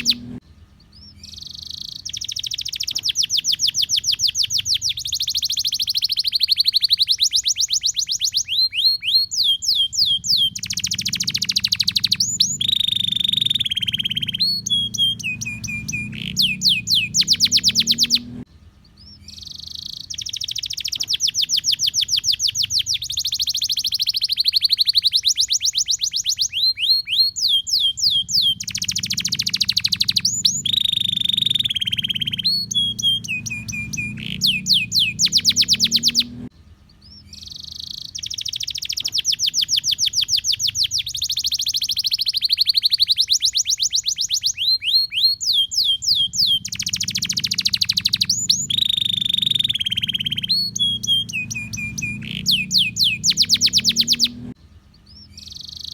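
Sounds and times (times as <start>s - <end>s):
canary singing trills: 0.0s - 55.9s
faint low hum: 0.0s - 55.9s.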